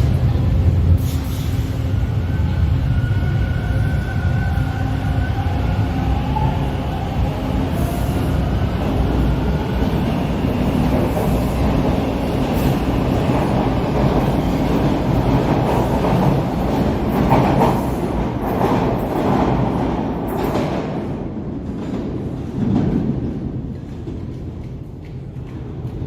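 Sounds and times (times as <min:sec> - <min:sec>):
subway train rumbling on track: 0:00.0 - 0:26.0.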